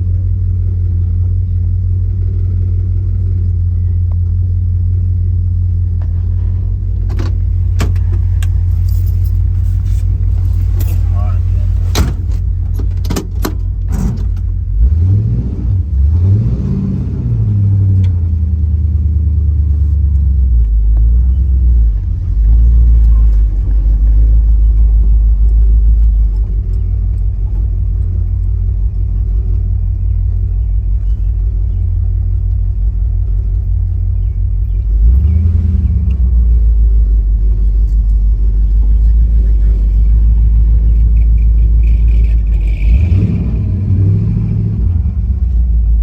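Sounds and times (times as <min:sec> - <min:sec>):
car engine rumbling: 0:00.0 - 0:46.0.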